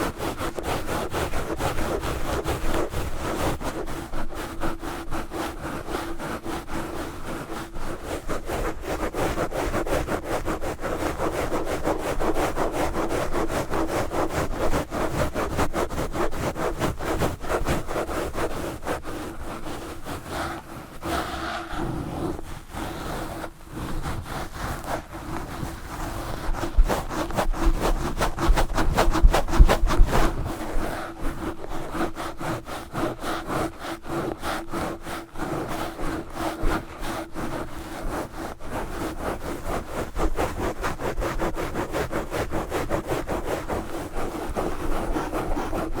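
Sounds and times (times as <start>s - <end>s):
gloves rubbing on microphone: 0.0s - 46.0s.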